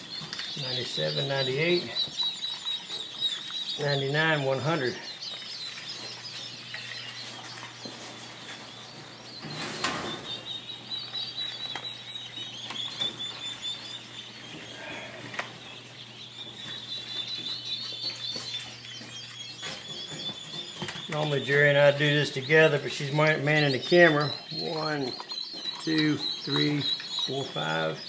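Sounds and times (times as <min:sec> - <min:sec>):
quail chicks peeping: 0:00.0 - 0:28.0.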